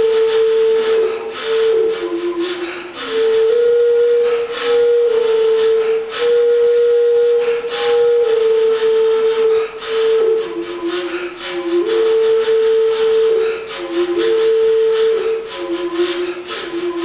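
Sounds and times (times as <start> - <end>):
wooden flute long held notes: 0.0 - 17.0.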